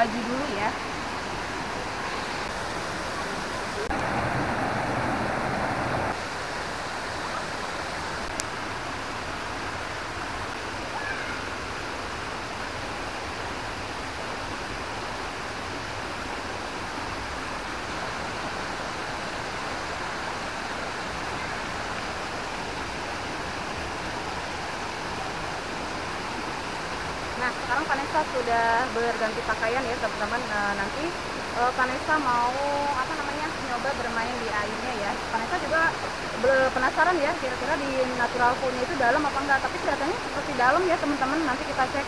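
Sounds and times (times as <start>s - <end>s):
waterfall rushing over rocks: 0.0s - 42.0s.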